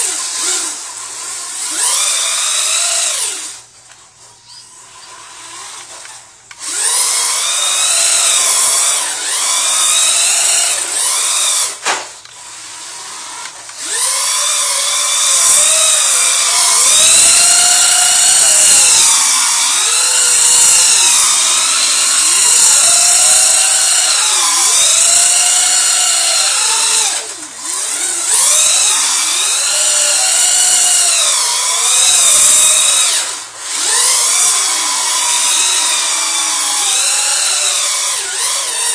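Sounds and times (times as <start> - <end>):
rc truck electric motor whining: 0.0 - 38.9.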